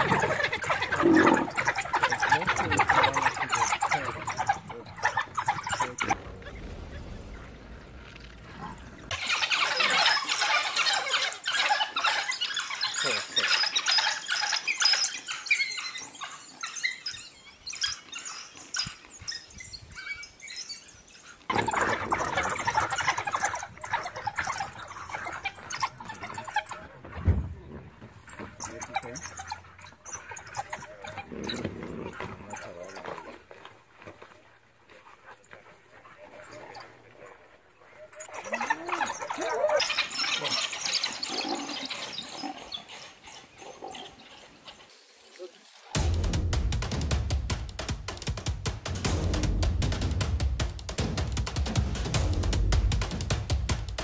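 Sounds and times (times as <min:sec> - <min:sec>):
wild dogs twittering squeals: 0:00.0 - 0:06.6, 0:09.0 - 0:46.0.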